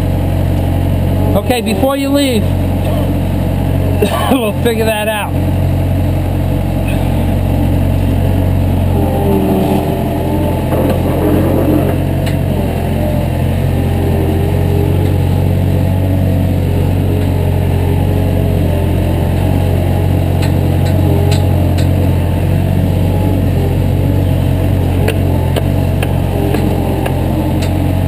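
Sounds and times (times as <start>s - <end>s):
heavy engine droning: 0.0s - 28.0s.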